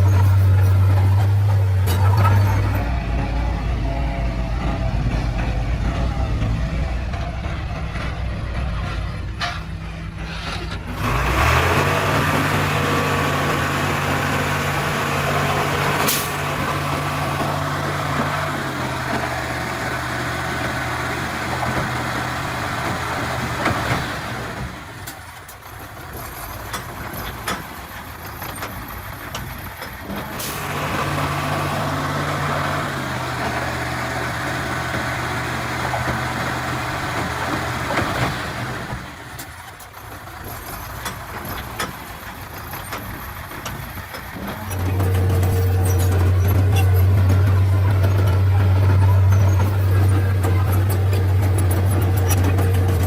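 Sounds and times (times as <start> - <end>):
bulldozer diesel engine working: 0.0 - 53.0.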